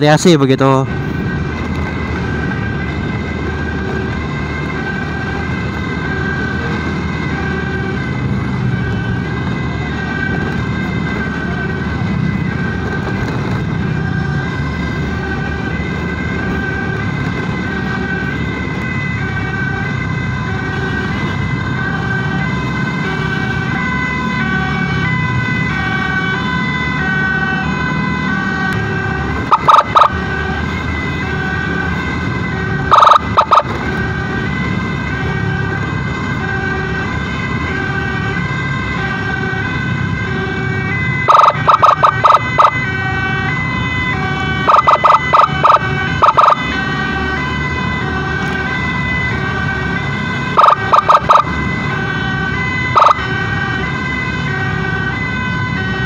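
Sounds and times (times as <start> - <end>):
ambulance siren two-tone: 0.0 - 56.0
traffic engines and tyres: 0.0 - 56.0.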